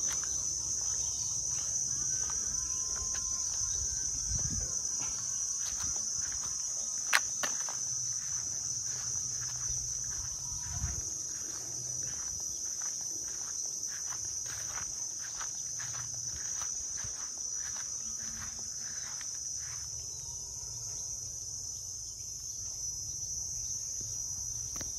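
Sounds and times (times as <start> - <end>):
footsteps through grass: 0.0 - 20.2
insect chorus buzzing: 0.0 - 24.9.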